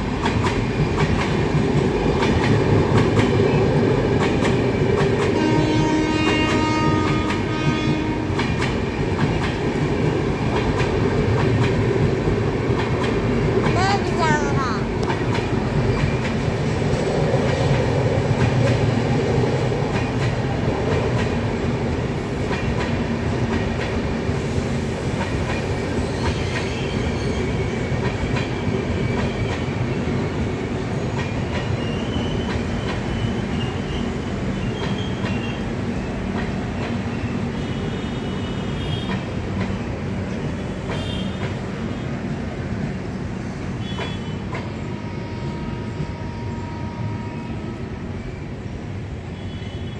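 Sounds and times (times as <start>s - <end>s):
train rail rumble: 0.0s - 49.9s.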